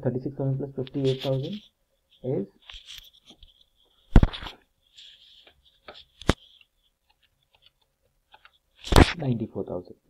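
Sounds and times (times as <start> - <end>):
rustling handling noise: 0.8 - 9.2.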